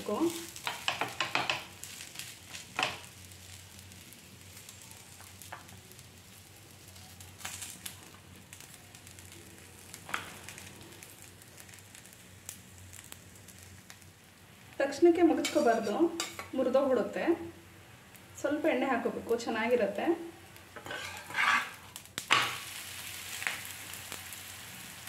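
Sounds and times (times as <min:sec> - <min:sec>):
dough sizzling on hot pan: 0:00.0 - 0:25.0.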